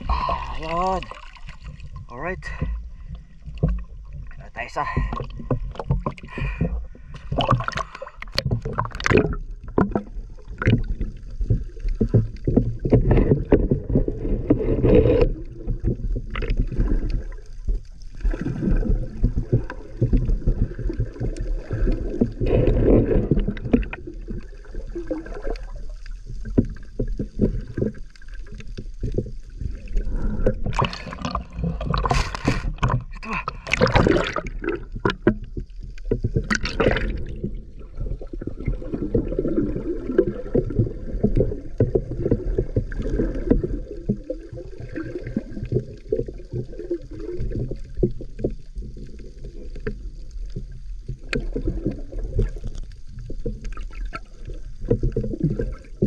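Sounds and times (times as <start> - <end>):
water sloshing and gurgling underwater: 0.0 - 56.0.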